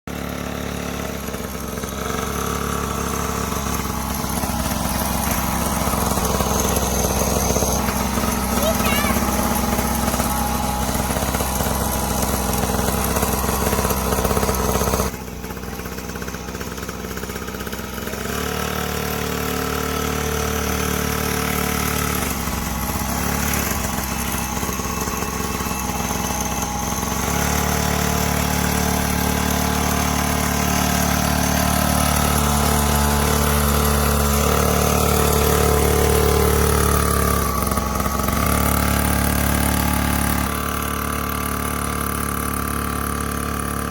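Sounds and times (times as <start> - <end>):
dirt bike engine running: 0.1 - 43.9.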